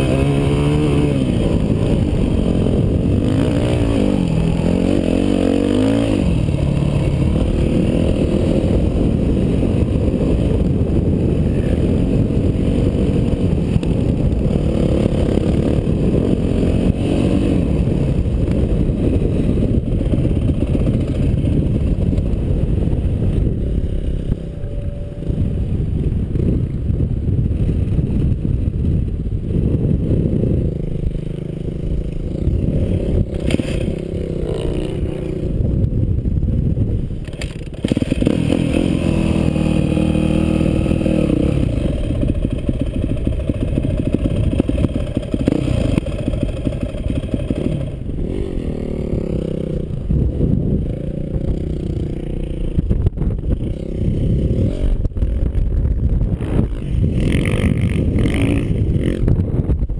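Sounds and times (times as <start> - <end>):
dirt bike engine revving: 0.0 - 25.7, 29.4 - 35.8, 37.4 - 59.5
wind buffeting microphone: 0.0 - 59.9.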